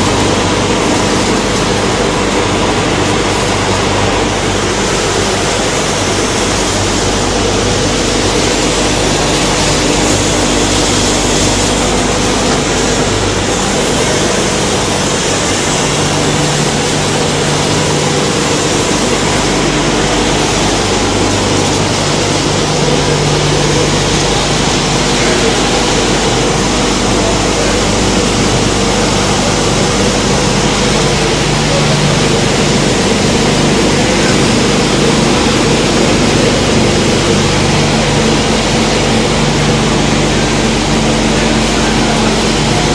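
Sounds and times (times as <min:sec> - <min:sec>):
machine rushing noise: 0:00.0 - 0:42.9
motor hum: 0:00.0 - 0:42.9.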